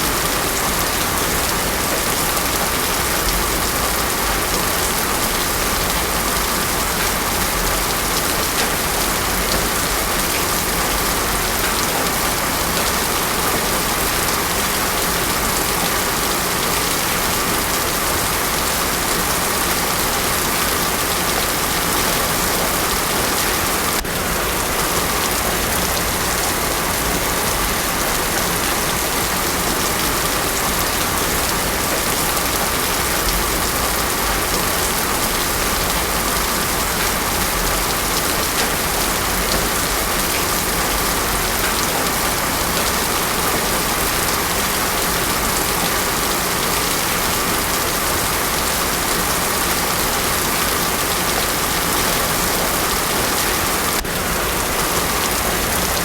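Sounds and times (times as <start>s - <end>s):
heavy rain on road: 0.0s - 56.0s.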